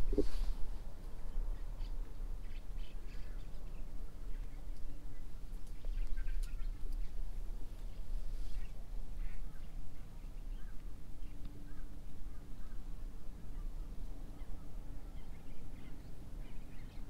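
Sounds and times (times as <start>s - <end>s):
faint bird chirps: 1.2s - 7.2s, 7.8s - 17.0s.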